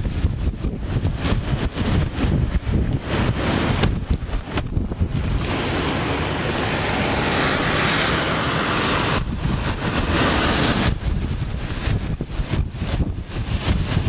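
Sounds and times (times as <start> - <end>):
strong wind and rain rushing: 0.0 - 14.0
wind buffeting microphone: 0.0 - 14.0.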